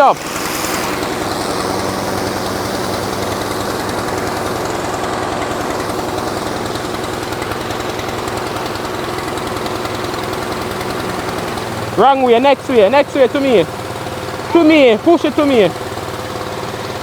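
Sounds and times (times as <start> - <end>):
pressure washer engine pulsing: 0.0 - 17.0.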